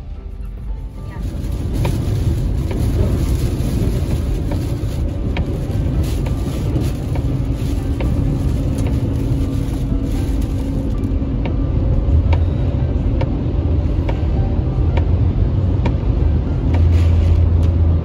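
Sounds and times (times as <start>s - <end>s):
tyres rumbling on wet pavement: 0.0s - 18.0s.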